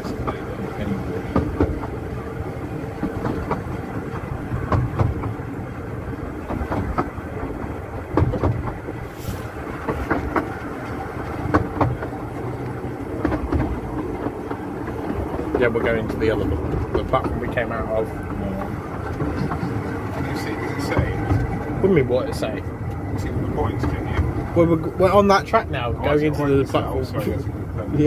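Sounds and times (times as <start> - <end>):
track clicks and knocks: 0.0 - 27.9
train wheels rumbling on rail: 0.0 - 28.0.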